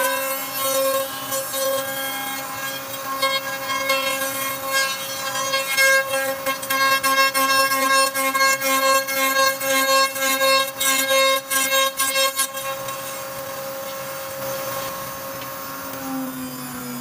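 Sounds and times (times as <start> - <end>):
router bit cutting wood: 0.0 - 17.0
router spindle whining: 0.0 - 17.0.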